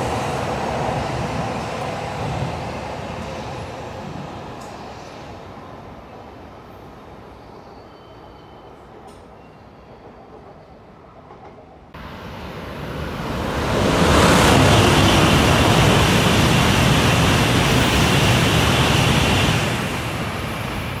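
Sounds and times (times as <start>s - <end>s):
bullet train rushing past: 0.0s - 21.0s.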